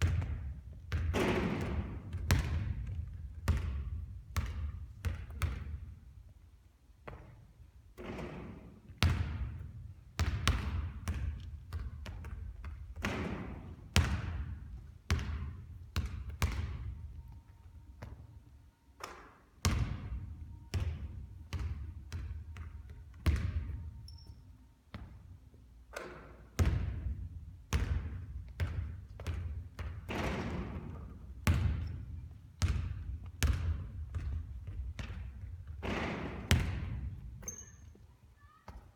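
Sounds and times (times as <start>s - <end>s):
basketballs bouncing on court: 0.0s - 6.0s, 7.0s - 17.3s, 19.0s - 38.9s.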